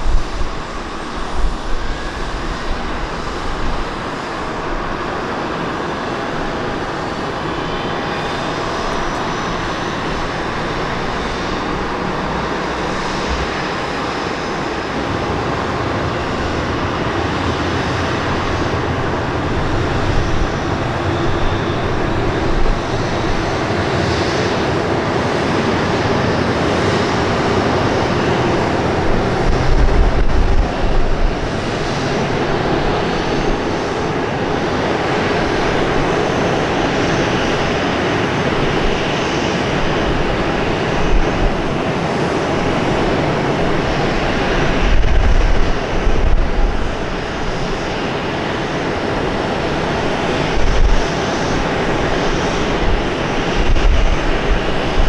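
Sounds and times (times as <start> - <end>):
jet engines rushing: 0.0 - 55.0.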